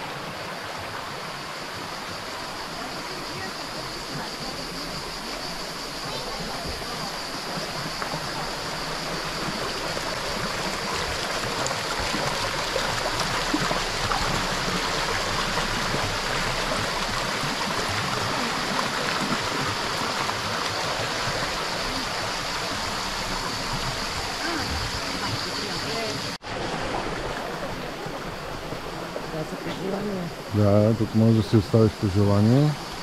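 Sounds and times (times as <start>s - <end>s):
stream flowing: 0.0s - 33.0s.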